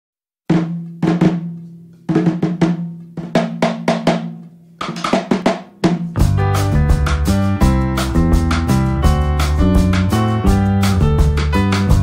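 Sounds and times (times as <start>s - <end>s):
drum strikes: 0.5s - 12.0s.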